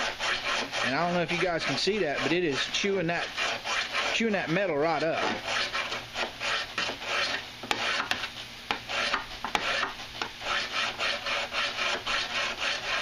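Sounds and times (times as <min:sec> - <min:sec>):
file rasping on steel blade: 0:00.0 - 0:13.0.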